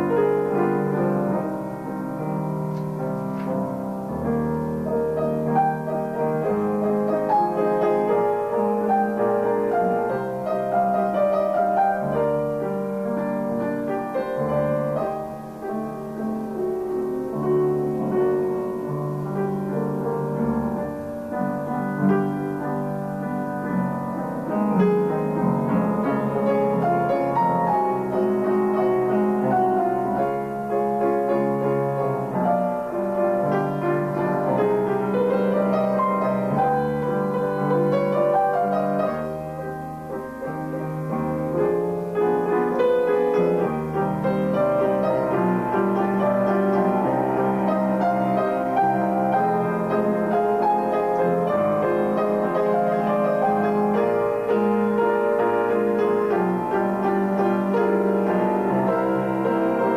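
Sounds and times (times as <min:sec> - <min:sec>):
solo classical piano piece: 0:00.0 - 0:59.9.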